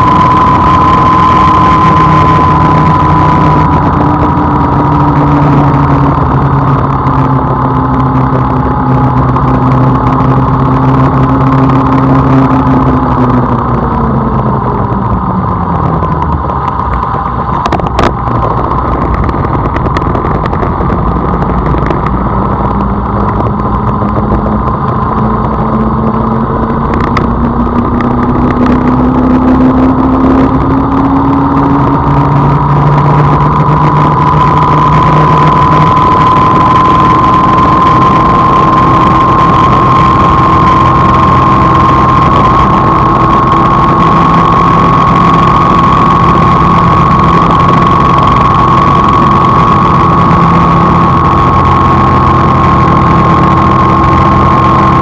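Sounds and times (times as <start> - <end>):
rising whine: 0.0 - 55.0
road noise: 0.0 - 55.0
vehicle engine running: 0.0 - 55.0.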